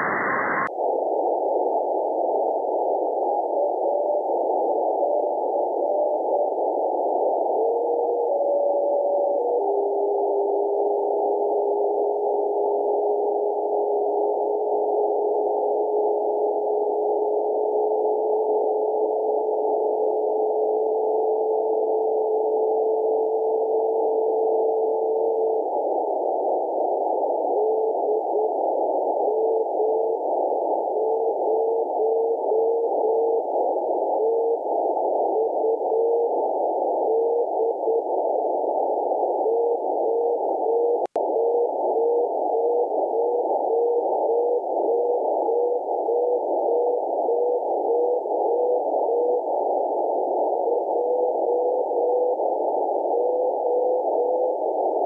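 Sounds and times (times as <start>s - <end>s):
radio receiver hiss: 0.0s - 9.6s, 17.0s - 55.0s.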